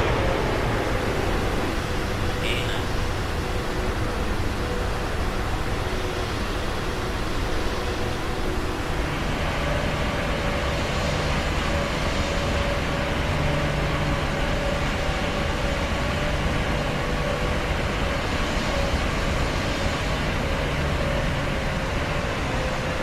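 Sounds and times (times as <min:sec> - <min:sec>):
airplane drone: 0:00.0 - 0:23.0.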